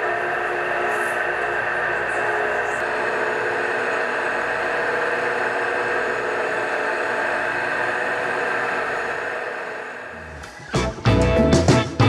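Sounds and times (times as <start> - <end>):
floor polishing machine whirring: 0.0 - 11.7.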